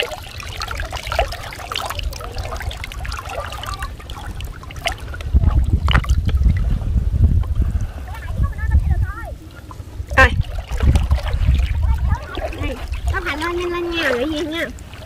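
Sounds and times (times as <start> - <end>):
muddy water sloshing: 0.0 - 15.0
low rumble: 1.8 - 13.9.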